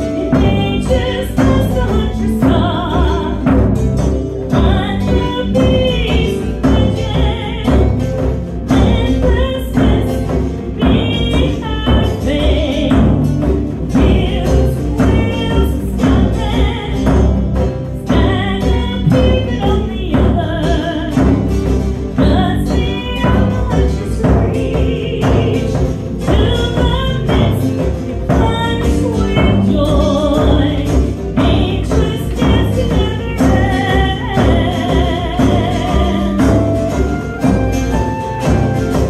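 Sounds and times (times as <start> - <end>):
acoustic guitar: 0.0 - 39.0
steady drum beat: 0.0 - 39.0
woman singing with vibrato: 0.0 - 39.0.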